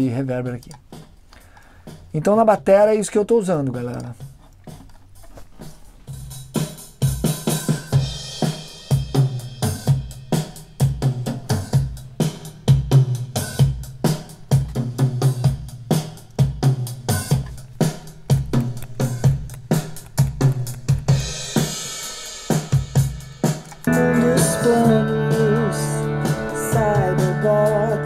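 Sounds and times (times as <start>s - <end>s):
rock drum beat: 0.0s - 2.8s, 5.6s - 28.0s.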